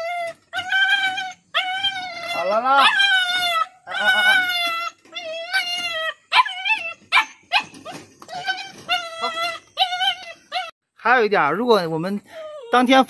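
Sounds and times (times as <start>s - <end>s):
puppy whining: 0.0s - 10.8s.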